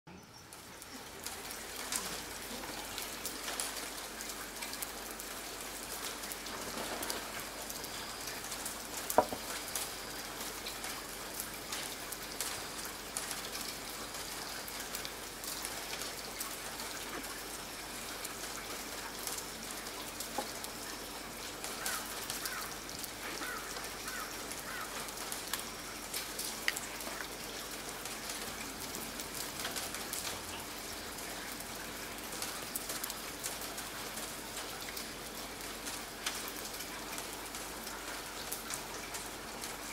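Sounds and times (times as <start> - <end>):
light rain falling: 0.1 - 39.9.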